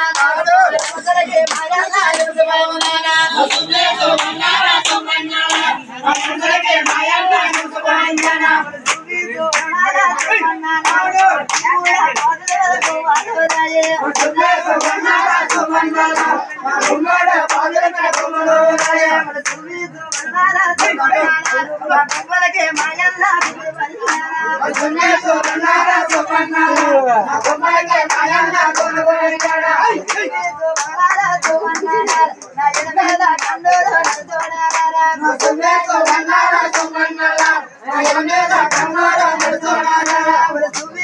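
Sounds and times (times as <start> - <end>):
hand claps: 0.0 - 41.0
men singing folk ballad: 0.0 - 41.0.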